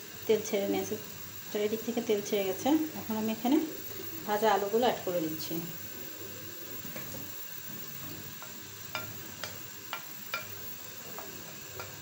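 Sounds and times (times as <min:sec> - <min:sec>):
soft steady sizzle: 0:00.0 - 0:12.0.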